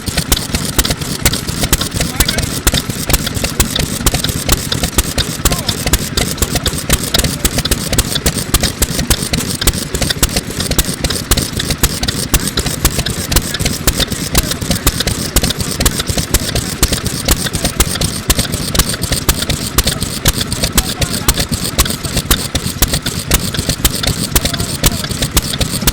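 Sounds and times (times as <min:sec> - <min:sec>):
oil engine exhaust beats: 0:00.0 - 0:25.9.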